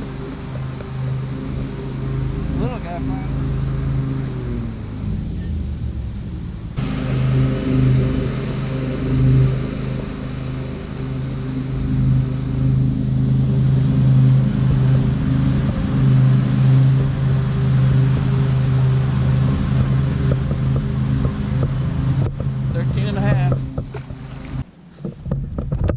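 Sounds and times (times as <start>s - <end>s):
engine humming: 0.0s - 25.9s.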